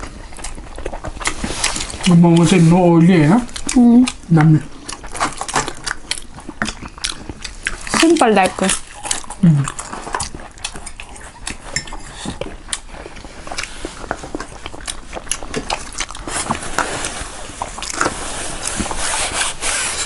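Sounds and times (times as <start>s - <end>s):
person chewing and lip-smacking: 0.0s - 2.6s, 3.4s - 19.1s.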